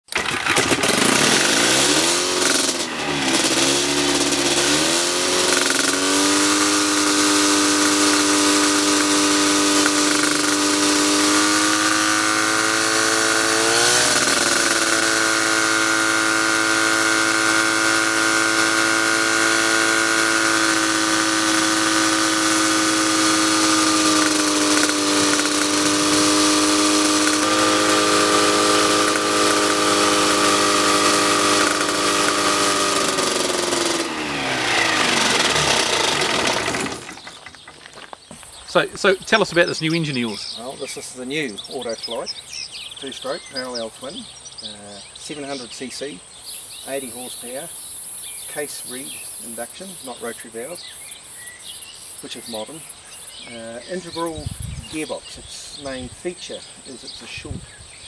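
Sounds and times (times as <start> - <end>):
aircraft engine turning propeller: 0.0 - 42.3, 45.1 - 51.1, 52.0 - 56.5.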